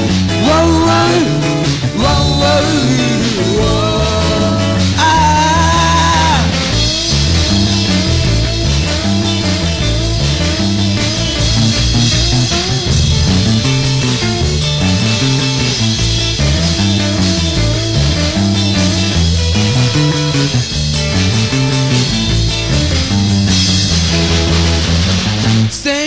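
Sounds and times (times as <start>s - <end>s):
bass line: 0.0s - 26.0s
drums: 0.0s - 26.0s
guitar riff with bending notes: 0.0s - 26.0s.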